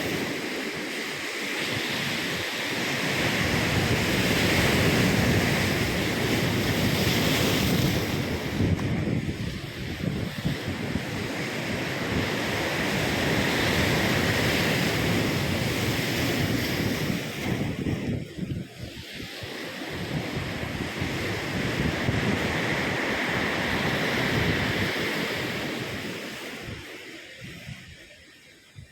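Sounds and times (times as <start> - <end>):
ocean waves breaking on shore: 0.0 - 28.9
wind rumble on microphone: 0.0 - 28.9.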